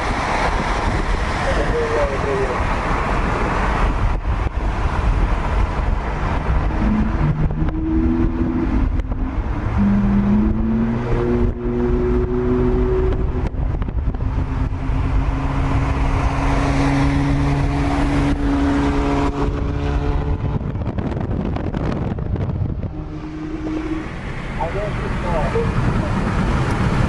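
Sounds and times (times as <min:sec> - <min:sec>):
car exhaust droning: 0:02.8 - 0:27.0.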